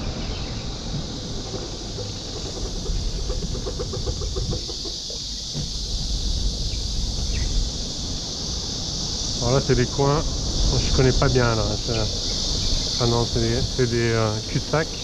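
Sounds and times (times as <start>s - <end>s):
high insect drone: 0.0s - 15.0s
scooter ride wind rumble: 0.0s - 15.0s.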